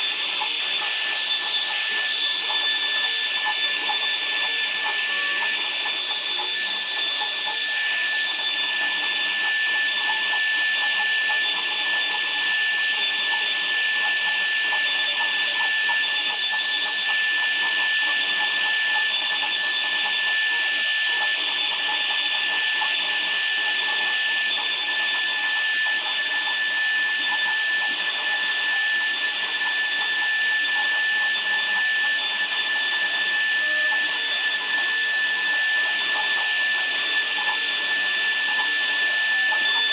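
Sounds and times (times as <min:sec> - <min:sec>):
power tool whining steadily: 0:00.0 - 0:39.9.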